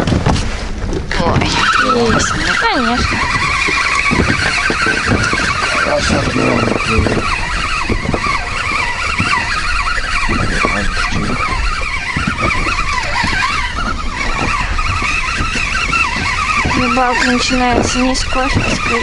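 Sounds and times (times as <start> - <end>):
water slapping against boat hull: 0.0 - 19.0
wind rushing over microphone: 0.0 - 19.0.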